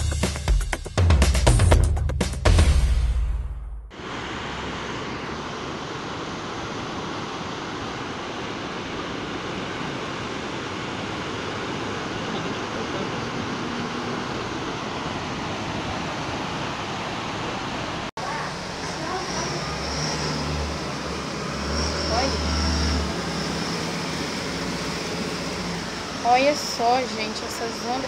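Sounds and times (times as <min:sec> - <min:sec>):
floodwater rushing through channel: 0:04.0 - 0:28.0.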